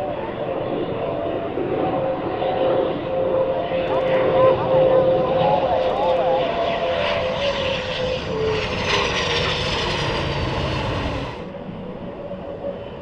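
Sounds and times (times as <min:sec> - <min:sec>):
jet aircraft passing by: 0:00.0 - 0:13.0.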